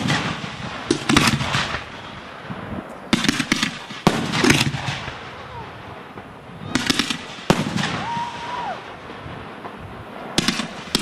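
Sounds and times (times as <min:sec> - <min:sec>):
fireworks bangs with crackle: 0:00.0 - 0:11.0.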